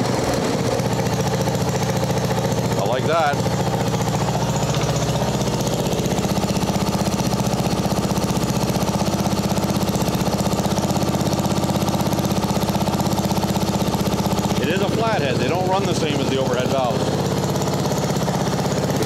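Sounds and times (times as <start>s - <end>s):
mower engine idling: 0.0s - 19.0s.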